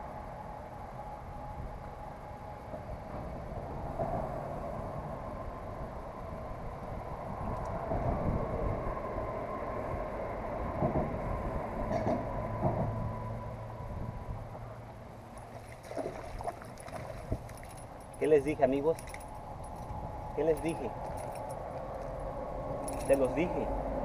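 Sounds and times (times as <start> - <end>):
traffic rumble with tire hum: 0.0 - 24.0.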